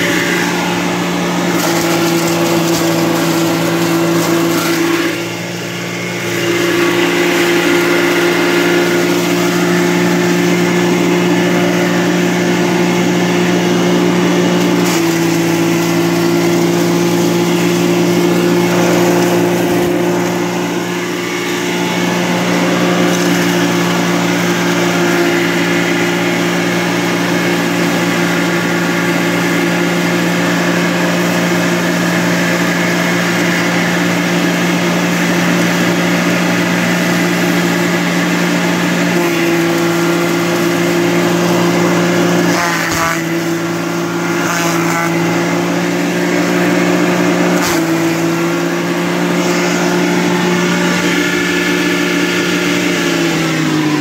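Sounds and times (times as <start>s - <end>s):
chopper mill motor hum: 0.0s - 54.0s.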